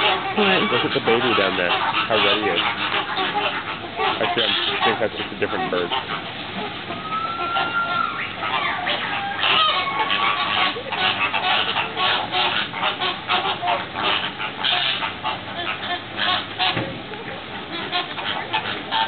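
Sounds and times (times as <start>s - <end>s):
flock of flamingos honking: 0.0s - 19.0s.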